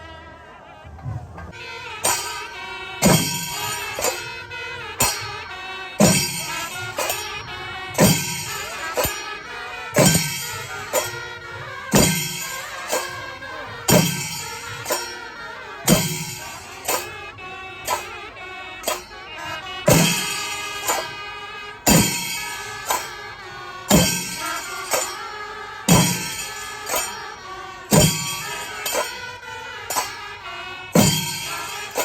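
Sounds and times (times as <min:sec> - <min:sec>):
cymbals ringing: 0:00.0 - 0:32.0
drums beating: 0:00.4 - 0:32.0.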